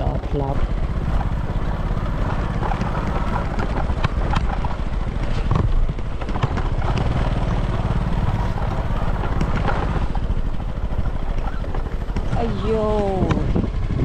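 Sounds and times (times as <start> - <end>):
bike knocks and rattles: 0.0 - 14.0
small motorbike engine running: 0.0 - 14.0.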